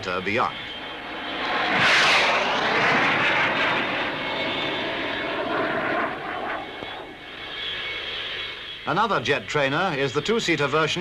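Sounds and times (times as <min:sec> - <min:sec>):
jet aircraft flying past: 0:00.0 - 0:09.0.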